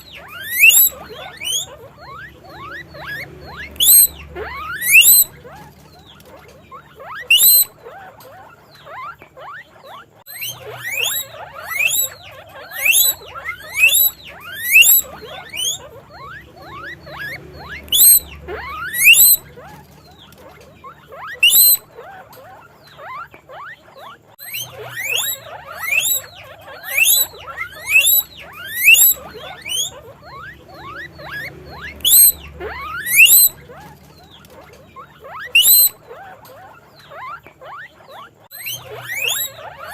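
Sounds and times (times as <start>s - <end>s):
guinea pigs wheeking: 0.0s - 39.9s.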